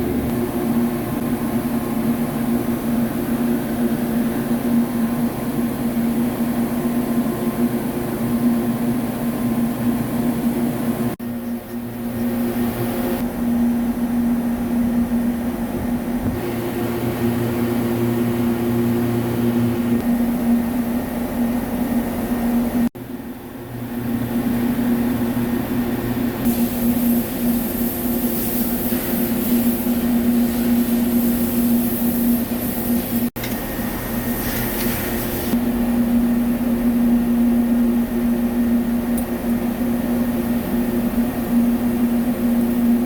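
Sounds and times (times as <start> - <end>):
lathe mechanical hum: 0.0 - 43.0.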